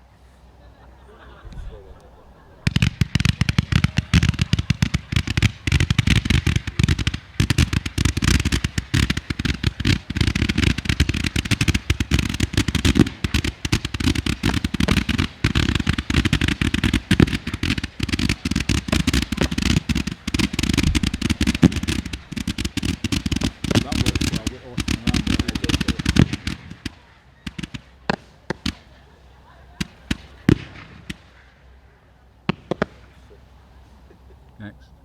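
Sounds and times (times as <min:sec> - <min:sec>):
fireworks popping and crackling: 0:01.4 - 0:31.8, 0:32.5 - 0:34.5.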